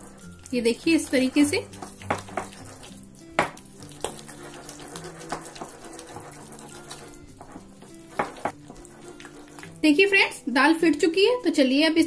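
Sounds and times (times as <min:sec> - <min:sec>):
hand beating wet batter: 0:00.0 - 0:10.0.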